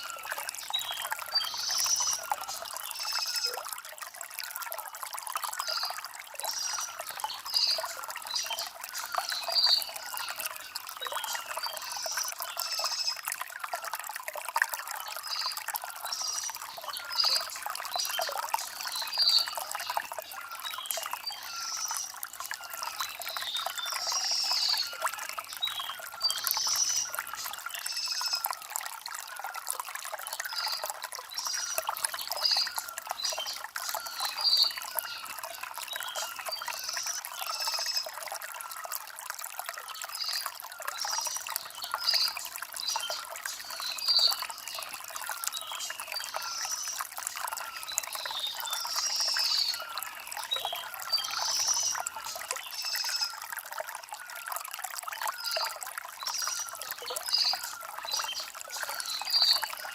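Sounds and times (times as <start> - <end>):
small birds chirping: 0.0 - 3.6, 5.4 - 13.2, 15.0 - 28.6, 30.3 - 38.7, 39.9 - 53.4, 55.3 - 59.9
stream water trickling over stones: 0.0 - 59.9.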